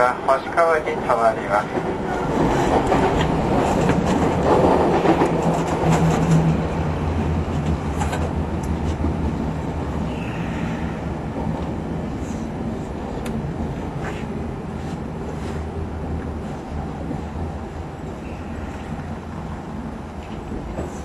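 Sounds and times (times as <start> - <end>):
electric train motor hum and rumble: 0.0 - 21.0.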